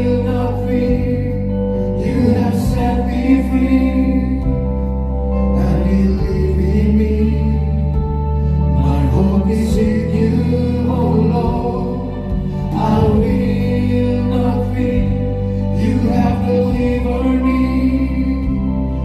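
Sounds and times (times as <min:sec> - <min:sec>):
steady bass accompaniment: 0:00.0 - 0:19.0
worship music singing: 0:00.0 - 0:19.0.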